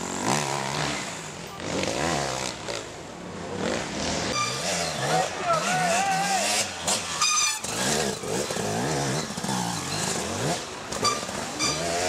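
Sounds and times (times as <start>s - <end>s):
dirt bike engine revving: 0.0s - 3.0s, 3.6s - 12.0s.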